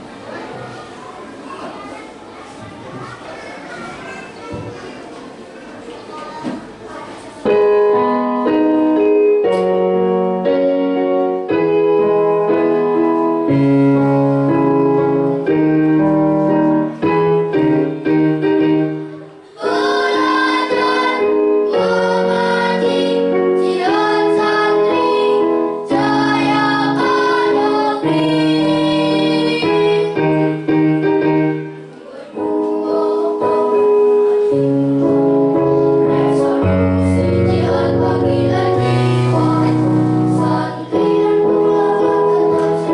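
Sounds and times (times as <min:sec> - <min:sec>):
children's choir singing: 0:02.1 - 0:42.9
keyboard chords: 0:07.4 - 0:42.9.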